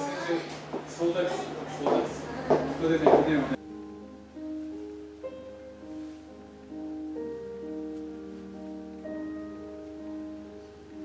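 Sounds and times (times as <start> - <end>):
gentle piano-like background music: 0.0 - 11.0.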